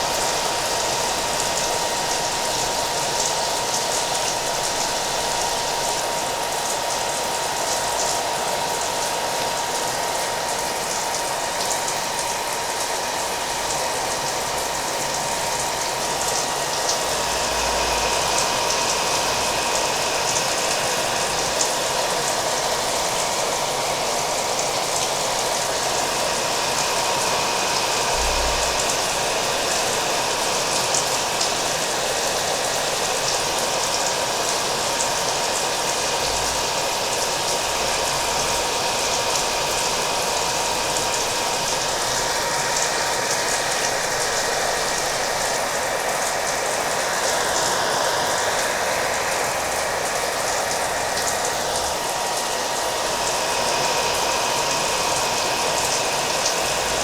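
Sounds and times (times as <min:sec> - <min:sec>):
hair dryer running: 0:00.0 - 0:57.0
rain patter: 0:00.0 - 0:57.0.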